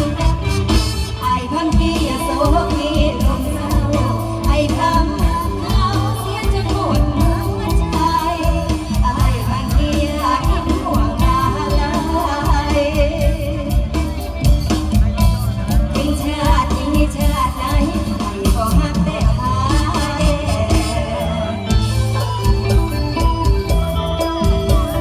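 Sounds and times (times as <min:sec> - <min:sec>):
amplified band with heavy drum beat: 0:00.0 - 0:25.0.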